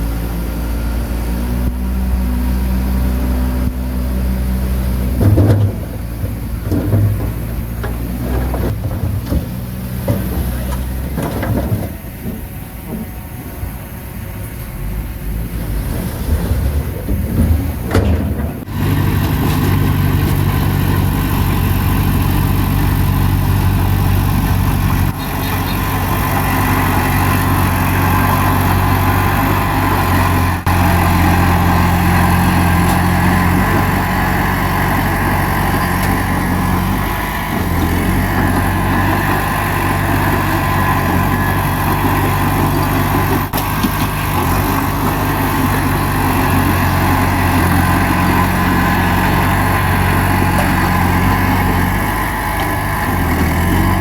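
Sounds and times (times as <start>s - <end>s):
diesel engine clattering: 0.0s - 54.0s.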